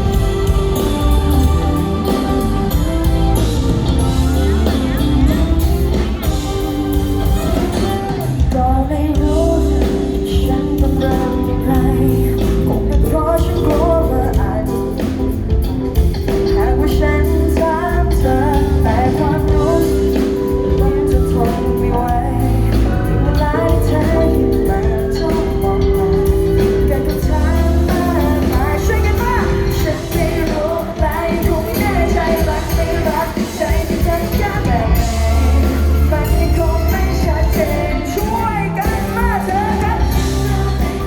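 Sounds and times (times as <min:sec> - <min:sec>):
heavy bass: 0:00.0 - 0:41.0
live pop-rock band: 0:00.0 - 0:41.0
woman singing: 0:00.0 - 0:41.0.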